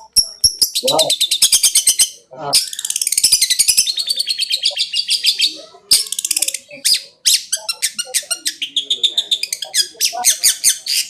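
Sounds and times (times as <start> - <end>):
bird chattering song: 0.0 - 11.0.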